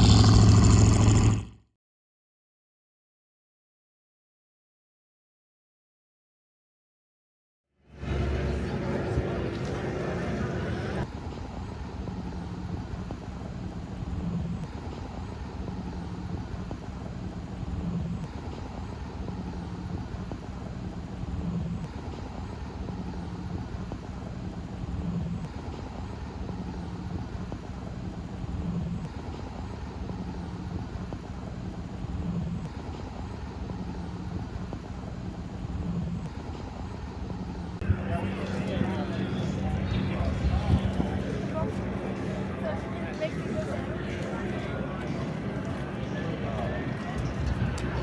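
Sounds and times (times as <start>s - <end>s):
low hum: 0.0s - 1.5s, 7.9s - 48.0s
low outdoor rumble: 0.0s - 1.5s, 7.9s - 48.0s.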